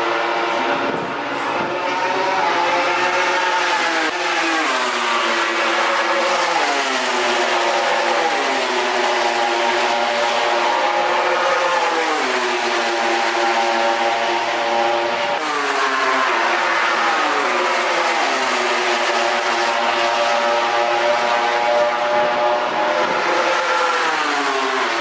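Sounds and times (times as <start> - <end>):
racing motorcycle engine high revs: 1.6 - 25.0.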